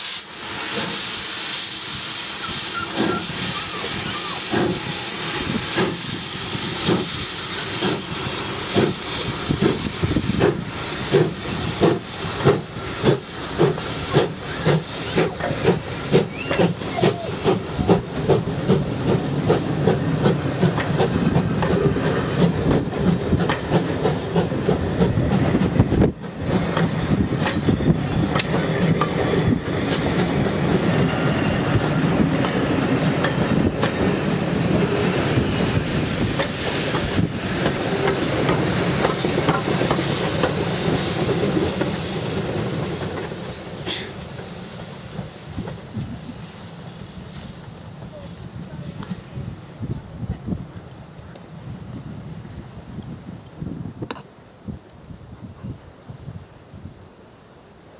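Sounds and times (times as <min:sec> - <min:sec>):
steam hissing: 0:00.0 - 0:53.7.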